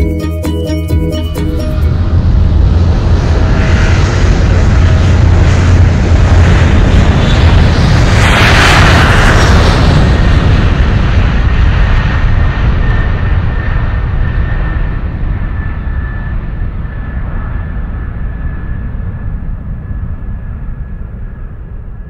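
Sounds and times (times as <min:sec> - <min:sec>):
low rumble and rushing noise: 0:01.0 - 0:22.0.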